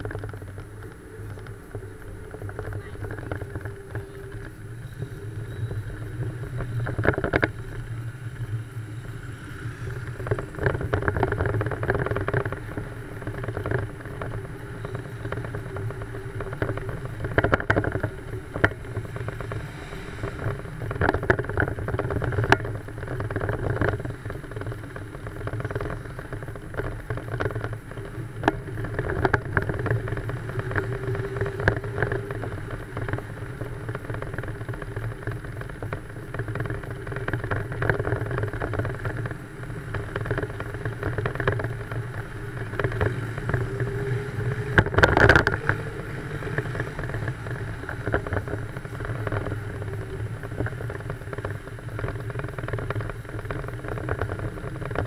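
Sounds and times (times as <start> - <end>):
car engine running: 0.0 - 55.0
wind and road noise: 0.0 - 55.0.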